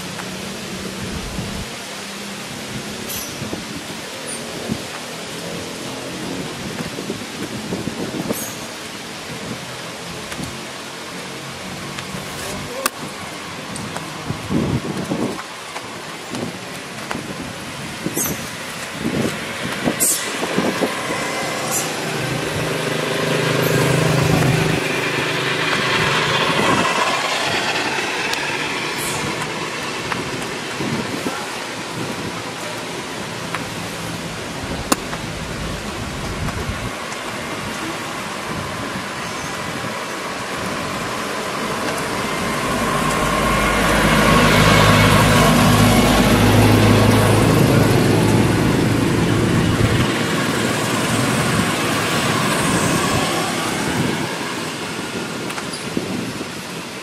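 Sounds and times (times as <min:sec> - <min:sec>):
traffic passing: 0:00.0 - 0:57.0.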